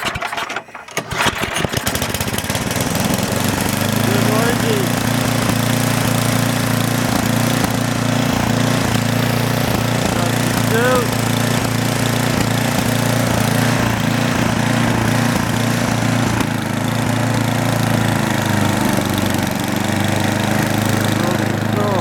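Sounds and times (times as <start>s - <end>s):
snow blower engine running: 0.0s - 22.0s.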